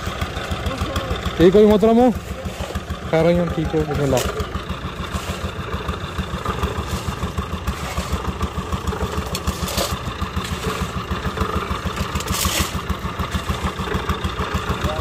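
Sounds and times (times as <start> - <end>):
engine chugging: 0.0 - 15.0.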